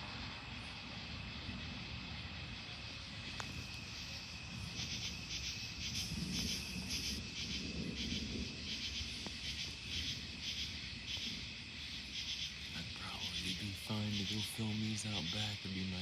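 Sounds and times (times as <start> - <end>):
distant thunder rumble: 0.0 - 16.0
insects chirping: 0.0 - 16.0.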